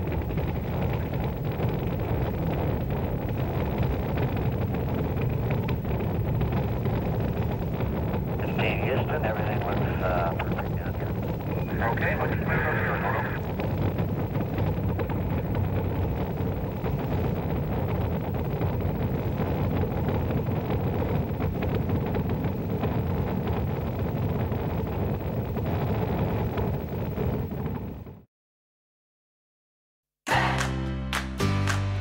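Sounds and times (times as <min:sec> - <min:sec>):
rocket engines rumbling: 0:00.0 - 0:28.2.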